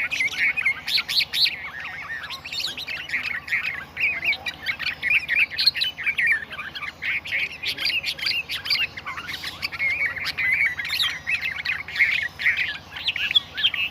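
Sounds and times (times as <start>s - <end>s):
birds chattering and chirping: 0.0s - 13.9s.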